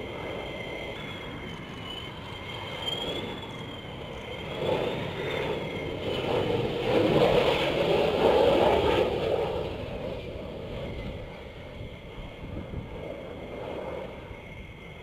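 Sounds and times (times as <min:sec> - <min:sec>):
jet engine passing low: 0:00.0 - 0:15.0.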